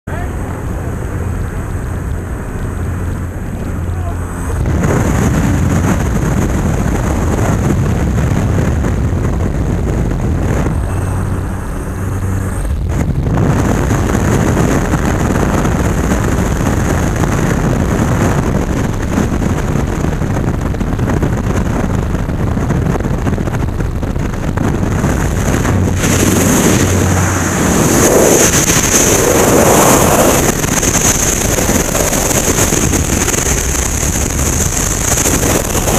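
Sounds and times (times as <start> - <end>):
heavy wind noise: 0.0 - 35.9
freefall wind on microphone: 0.1 - 35.9
plane engine droning: 0.1 - 35.9.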